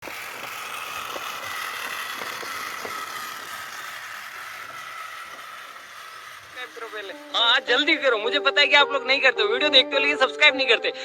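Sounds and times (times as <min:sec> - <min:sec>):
toy motor whining: 0:00.0 - 0:11.0.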